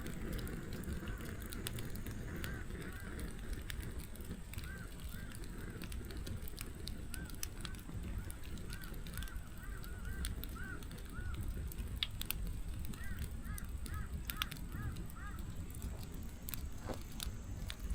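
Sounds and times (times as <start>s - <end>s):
wood fire crackling and popping: 0.0s - 17.9s.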